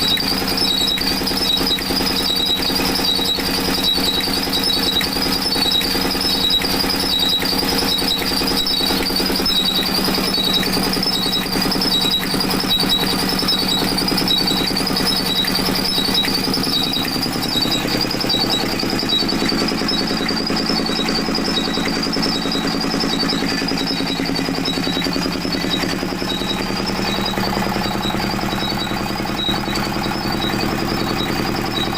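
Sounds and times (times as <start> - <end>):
diesel engine running: 0.0 - 31.9
high wavering squeal: 0.0 - 31.9.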